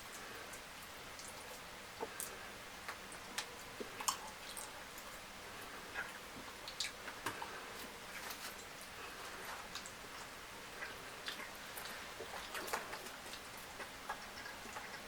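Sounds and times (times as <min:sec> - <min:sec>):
steady hiss: 0:00.0 - 0:15.0
wet chewing and mouth clicks: 0:00.1 - 0:15.0.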